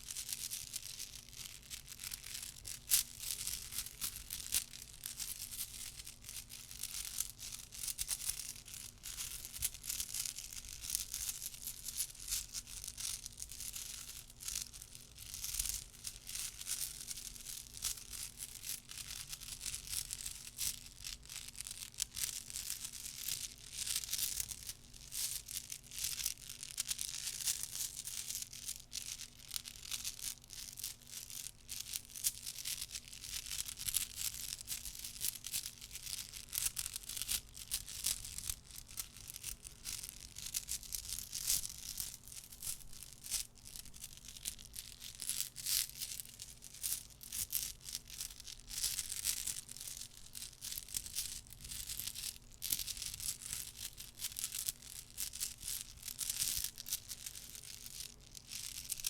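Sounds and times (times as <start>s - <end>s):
small objects clicking and crackling: 0.1s - 59.0s.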